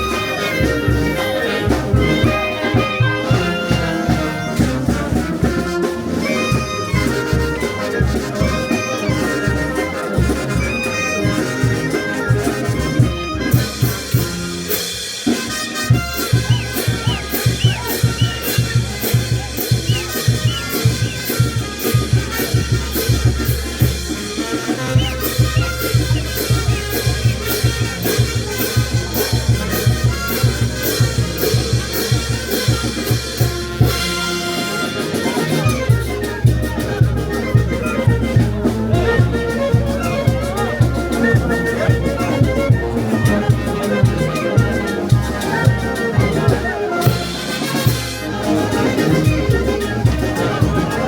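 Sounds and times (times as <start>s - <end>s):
bass: 0.0s - 51.0s
drums and cymbals beat: 0.0s - 51.0s
trumpets and reeds melody: 0.0s - 51.0s.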